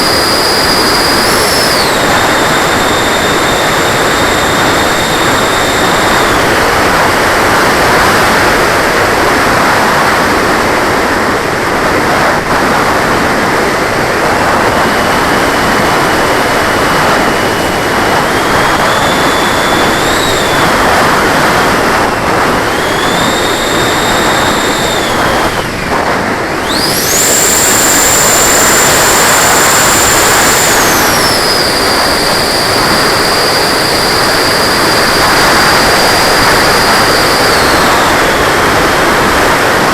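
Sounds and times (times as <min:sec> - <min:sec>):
electric ducted fan whining: 0:00.0 - 0:39.9
rush of air: 0:00.0 - 0:39.9.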